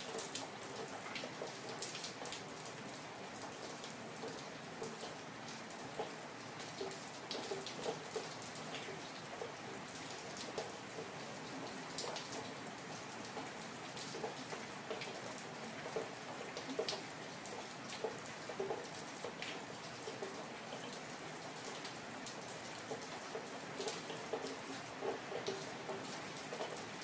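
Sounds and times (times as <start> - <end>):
raindrops plinking on hard surfaces: 0.0 - 27.0
steady rain: 0.0 - 27.0.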